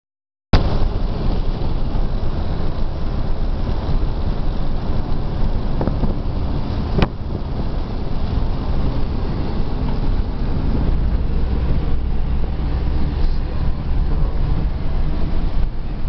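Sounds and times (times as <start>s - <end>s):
car engine running: 0.6s - 16.0s
wind rumble on microphone: 0.6s - 16.0s.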